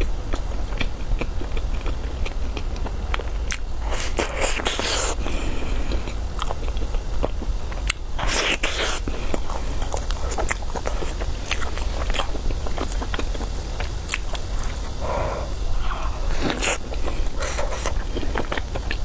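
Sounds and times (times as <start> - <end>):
chewing with wet mouth clicks: 0.0 - 19.0.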